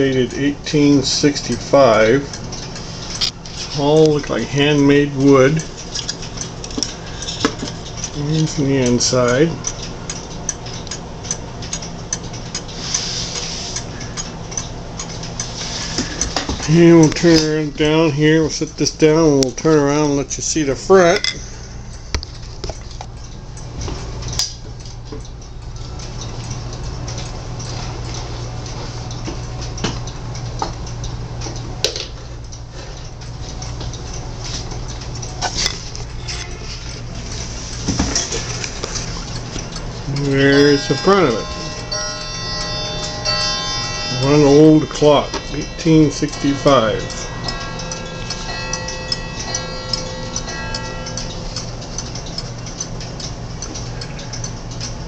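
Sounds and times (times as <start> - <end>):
pendulum clock ticking: 0.0 - 55.0
steady low hum: 0.0 - 55.0.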